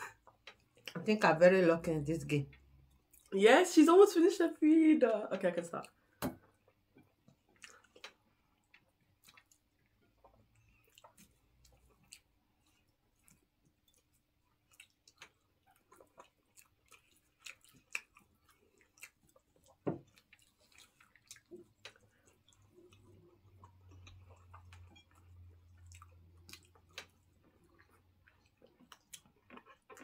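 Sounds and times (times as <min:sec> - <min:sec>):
people chewing food: 0:00.0 - 0:01.1, 0:01.8 - 0:03.4, 0:05.5 - 0:30.0.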